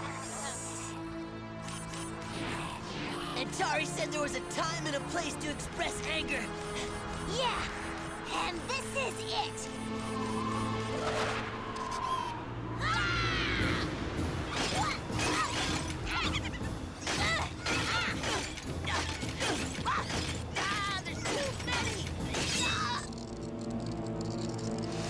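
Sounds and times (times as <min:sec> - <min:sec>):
dramatic music: 0:00.0 - 0:25.0.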